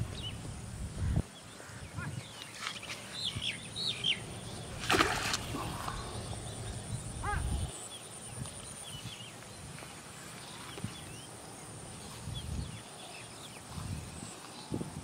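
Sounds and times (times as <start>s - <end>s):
small birds chirping: 0.1s - 14.9s.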